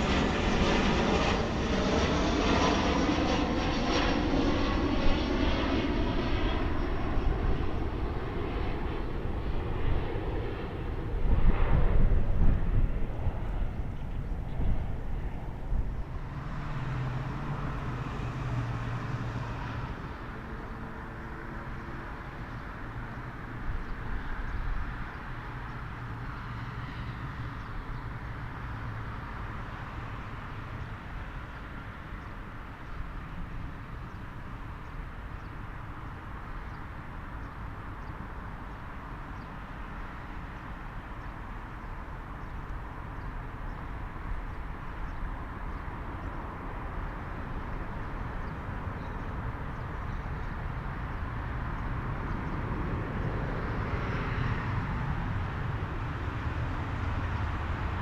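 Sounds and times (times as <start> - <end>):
jet engines on approach: 0.0 - 58.0.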